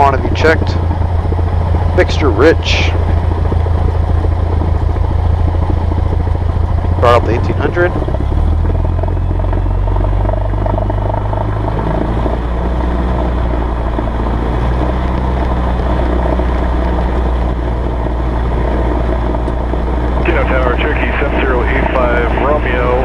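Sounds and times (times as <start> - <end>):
aircraft engine and propeller running: 0.0 - 23.0.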